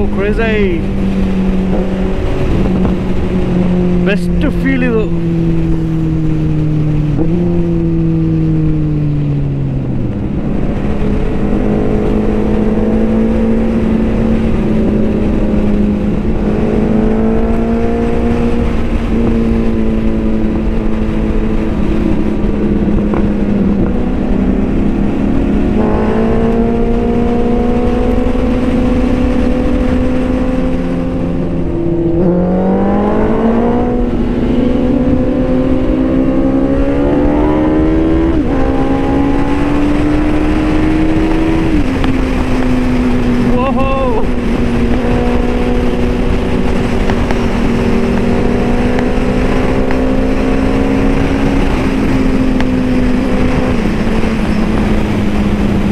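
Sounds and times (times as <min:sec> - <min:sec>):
motorcycle engine at speed: 0:00.0 - 0:55.9
wind rush: 0:00.0 - 0:55.9.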